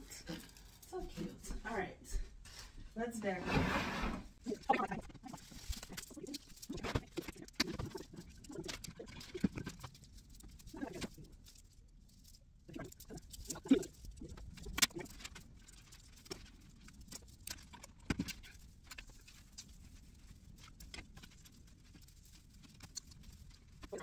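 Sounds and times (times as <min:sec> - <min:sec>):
branches rustling: 0:03.8 - 0:24.0.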